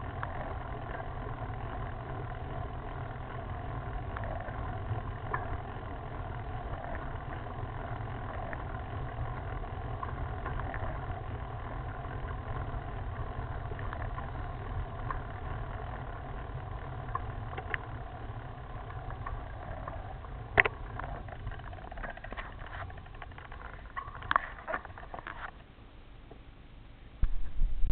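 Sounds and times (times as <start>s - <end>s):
wind and road rumble: 0.0s - 25.6s
bike clicks and rattles: 0.0s - 25.7s.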